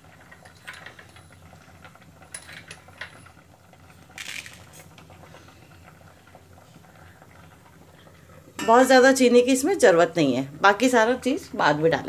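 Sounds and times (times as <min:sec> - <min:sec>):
pot simmering with ticks and pops: 0:00.0 - 0:12.0.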